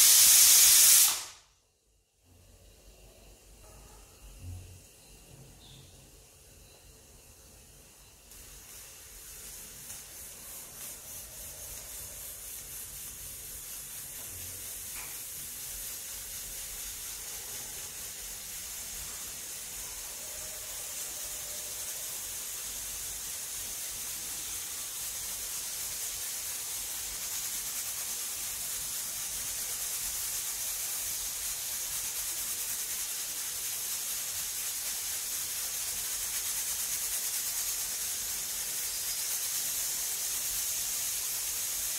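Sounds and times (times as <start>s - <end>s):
pressure cooker hissing steam: 0.0s - 1.5s, 4.2s - 41.9s.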